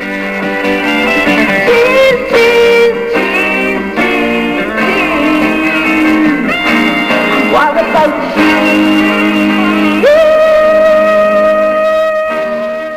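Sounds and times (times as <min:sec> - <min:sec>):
music with plucked guitar: 0:00.0 - 0:12.9.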